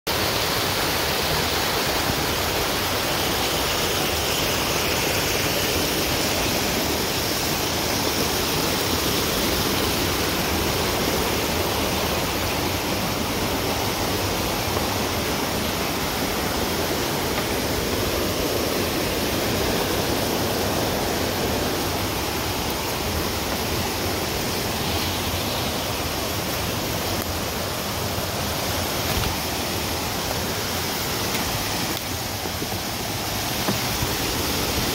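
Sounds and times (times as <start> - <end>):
creek water cascading over rocks: 0.1 - 34.9.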